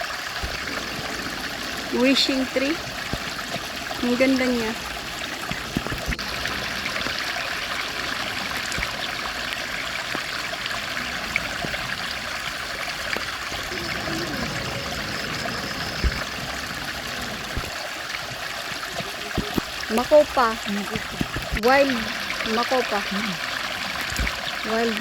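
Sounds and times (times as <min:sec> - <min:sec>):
flowing stream: 0:00.0 - 0:25.0.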